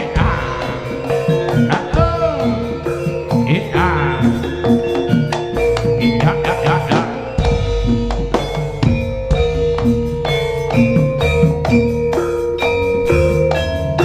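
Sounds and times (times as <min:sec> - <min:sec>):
drum strokes: 0:00.0 - 0:14.0
gong-chime and metallophone notes: 0:00.0 - 0:14.0
wavering melodic line: 0:00.0 - 0:14.0.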